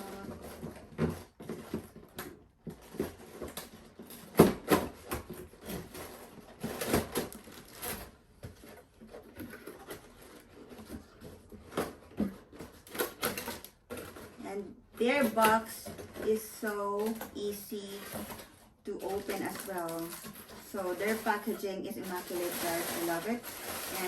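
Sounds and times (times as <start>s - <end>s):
cardboard and plastic rustling: 0.0s - 24.0s.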